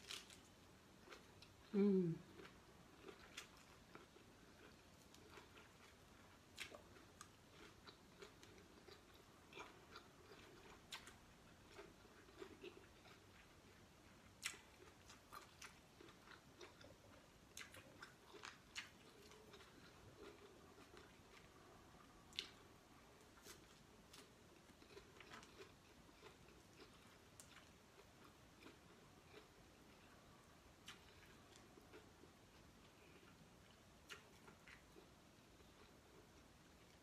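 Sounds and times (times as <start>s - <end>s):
food crunching: 0.0s - 1.7s, 2.3s - 30.1s, 30.8s - 37.0s
person chewing food: 0.0s - 37.0s.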